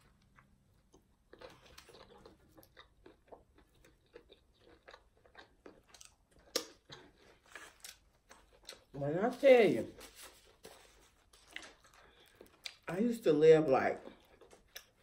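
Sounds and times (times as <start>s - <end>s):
person chewing crunchy food: 0.0s - 9.3s, 9.9s - 12.9s, 13.9s - 15.0s.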